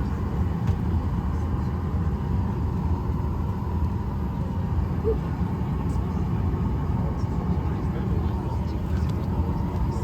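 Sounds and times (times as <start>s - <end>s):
airliner cabin rumble and hum: 0.0s - 10.0s.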